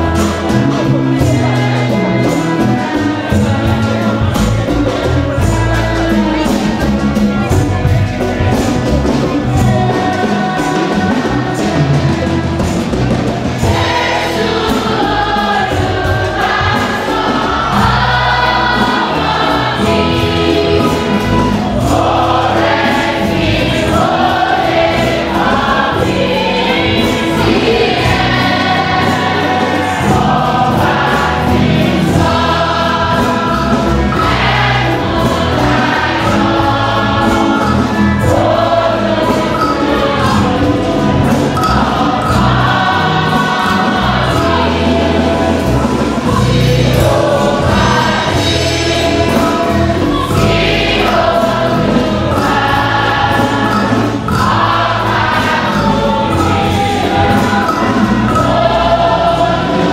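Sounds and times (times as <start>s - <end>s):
choir and congregation singing hymn: 0.0s - 59.9s.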